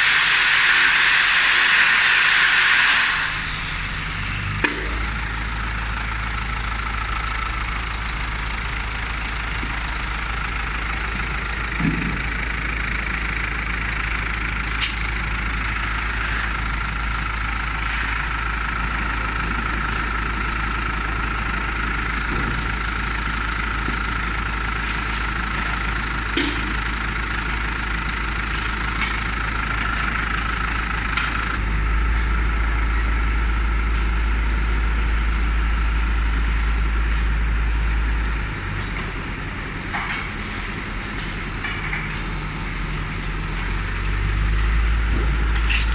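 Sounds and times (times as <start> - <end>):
vehicle engine idling: 3.0 - 45.9.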